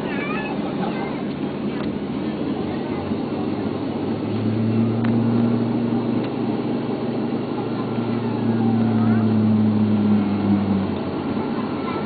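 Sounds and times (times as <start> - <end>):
aircraft cabin rumble: 0.0 - 12.0
low hum: 0.0 - 12.0.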